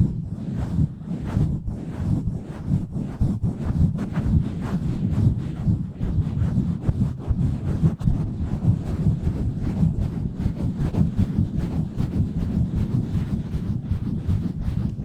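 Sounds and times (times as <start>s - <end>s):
hands rubbing on microphone: 0.0s - 15.0s.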